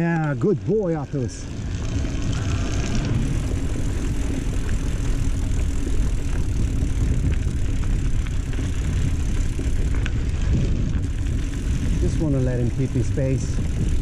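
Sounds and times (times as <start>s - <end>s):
bike tyres rolling on dirt: 0.0s - 14.0s
light ticks of gravel: 0.0s - 14.0s
wind on microphone: 1.1s - 14.0s.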